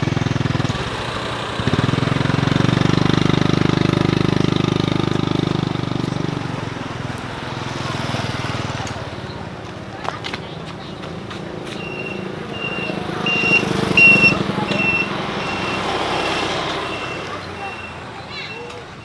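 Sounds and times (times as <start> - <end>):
small engine running: 0.0 - 18.1.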